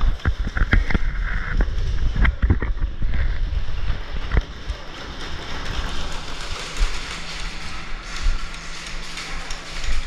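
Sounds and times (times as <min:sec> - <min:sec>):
sharp clicks and knocks: 0:00.0 - 0:03.5, 0:04.1 - 0:10.0.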